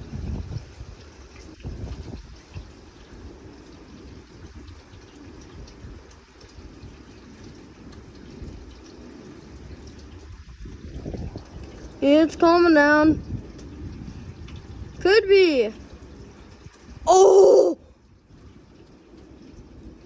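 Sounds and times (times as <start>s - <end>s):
steady rain falling: 0.0s - 20.0s
water dripping and trickling: 0.0s - 20.0s.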